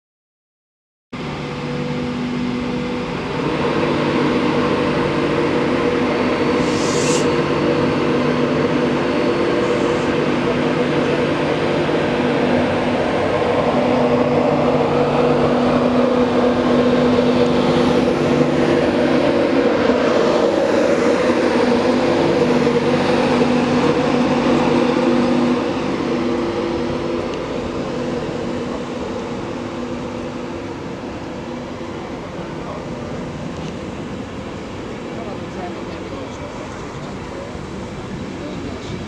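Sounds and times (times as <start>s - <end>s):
rushing noise: 1.2s - 39.0s
train mechanical hum: 1.2s - 39.0s.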